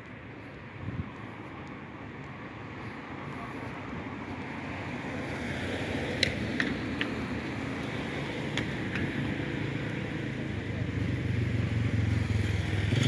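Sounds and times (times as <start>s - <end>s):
vehicle traffic rumble: 0.0s - 13.0s.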